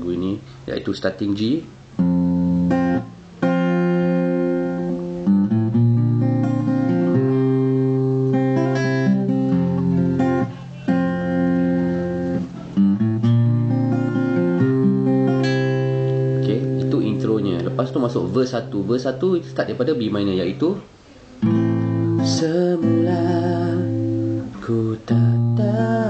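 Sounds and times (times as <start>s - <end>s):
fingerpicked acoustic guitar: 0.0s - 26.0s.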